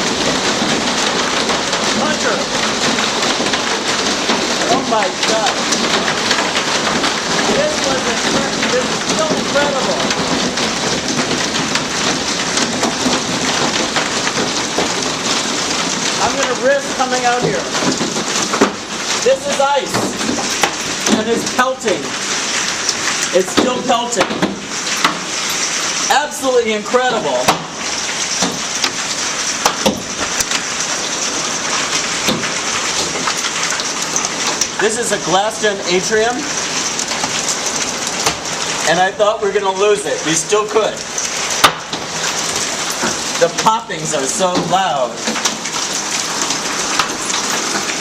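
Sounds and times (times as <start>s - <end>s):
hail pelting glass: 0.0s - 48.0s
rain hiss: 0.0s - 48.0s.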